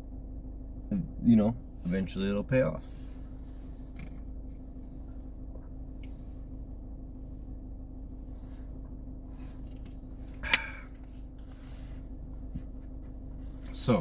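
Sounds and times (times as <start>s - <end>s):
faint constant tone: 0.0s - 14.0s
steady low hum: 0.0s - 14.0s.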